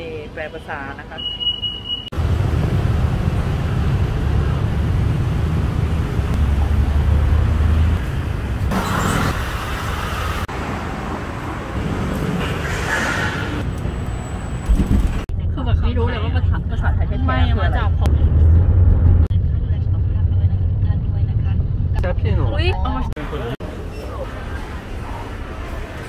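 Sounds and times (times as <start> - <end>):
road noise: 0.0 - 26.0
vehicle engines rumbling: 0.0 - 26.0.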